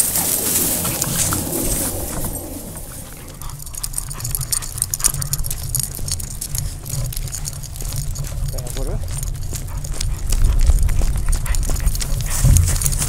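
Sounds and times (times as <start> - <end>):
footsteps: 0.0 - 13.0
harness fittings clinking: 0.0 - 13.0.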